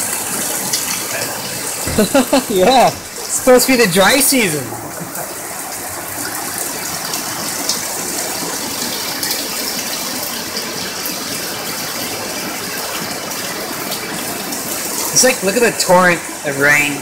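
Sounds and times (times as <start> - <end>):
heavy rain on concrete: 0.0 - 17.0
water pouring into a bucket: 0.0 - 17.0.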